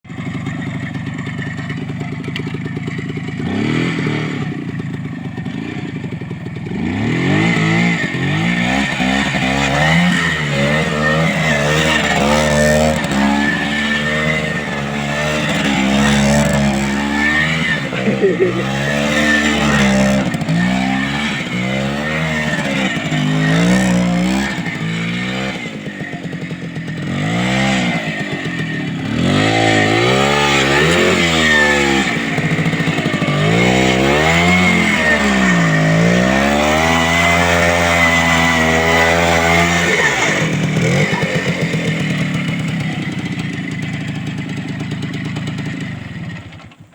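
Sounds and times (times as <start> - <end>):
two-stroke motorcycle engine revving: 0.1 - 46.9.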